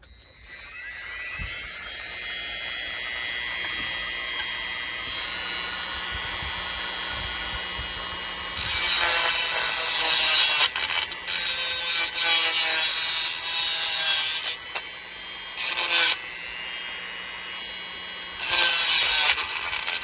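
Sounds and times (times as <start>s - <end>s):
grinding on metal: 0.0s - 20.0s
rotary tool whine: 0.0s - 20.0s.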